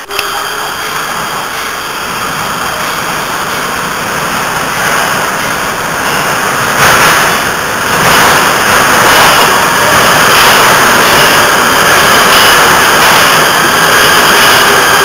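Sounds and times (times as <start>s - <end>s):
metro train wheels rushing: 0.0s - 15.0s.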